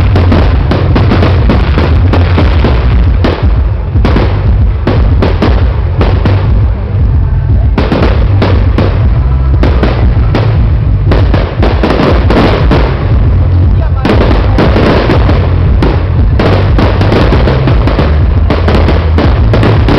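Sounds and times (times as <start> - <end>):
constant low rumble: 0.0 - 19.9
fireworks bangs: 0.0 - 19.9.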